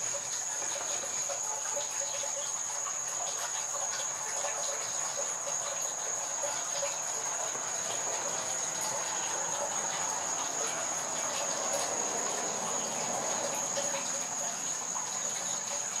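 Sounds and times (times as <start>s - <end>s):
background hiss: 0.0s - 16.0s
insects trilling: 0.0s - 16.0s.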